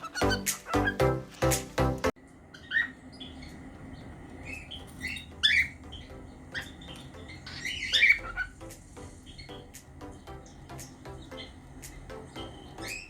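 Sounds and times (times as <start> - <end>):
cockatiel chirping: 0.0 - 1.4, 2.5 - 13.0.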